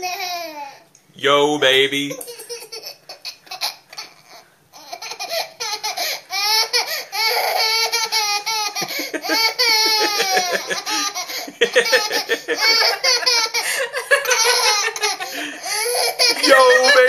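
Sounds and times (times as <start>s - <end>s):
toddler laughing: 0.0s - 0.8s, 2.1s - 17.0s.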